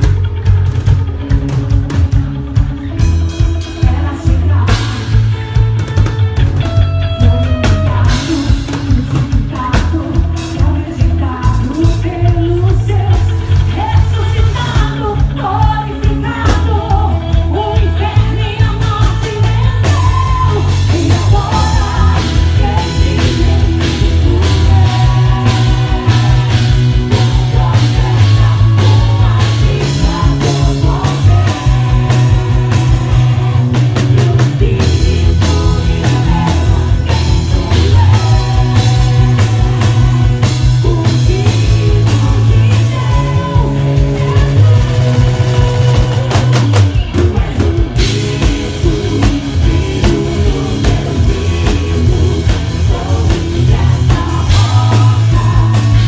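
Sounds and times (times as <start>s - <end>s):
person singing: 0.0s - 6.1s, 6.7s - 56.0s
drumming: 0.0s - 56.0s
live rock band playing: 0.0s - 56.0s.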